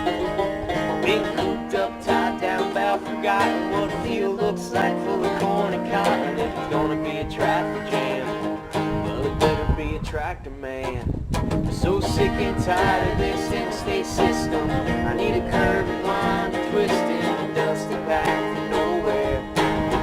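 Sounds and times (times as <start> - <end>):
acoustic string instruments picking: 0.0 - 10.0, 10.7 - 20.0.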